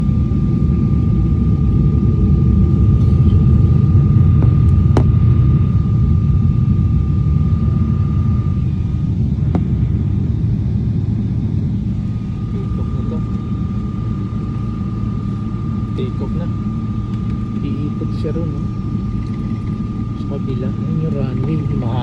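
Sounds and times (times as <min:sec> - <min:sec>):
jet cabin engine rumble: 0:00.0 - 0:22.0
thin steady whine: 0:00.0 - 0:22.0.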